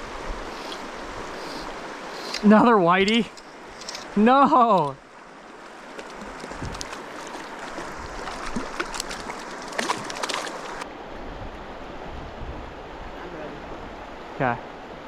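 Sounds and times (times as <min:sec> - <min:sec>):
mountain creek flowing: 0:00.0 - 0:15.0.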